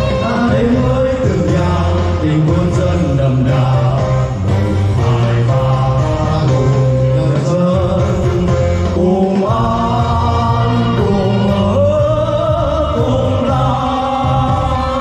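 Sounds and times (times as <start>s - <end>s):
backing track with bass line: 0.0s - 15.0s
two men singing: 0.0s - 15.0s.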